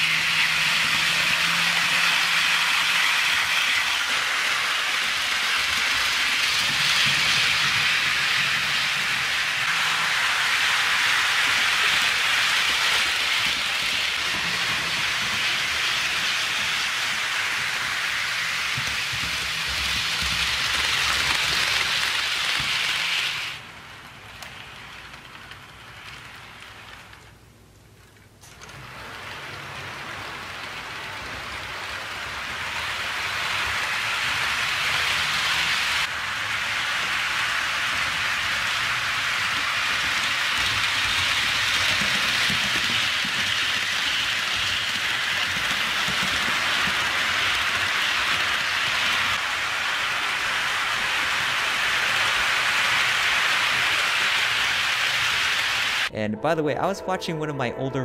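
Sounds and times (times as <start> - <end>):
model train rolling on track: 0.0 - 56.1.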